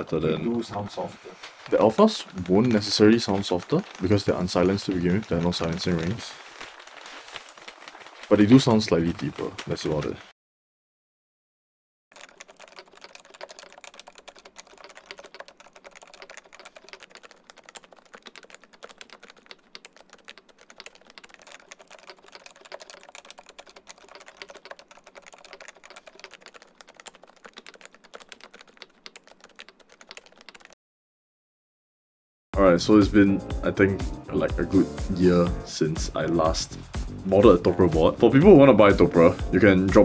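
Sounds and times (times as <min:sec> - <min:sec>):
fast keyboard typing: 0:00.0 - 0:10.2, 0:12.1 - 0:30.8, 0:34.7 - 0:40.0.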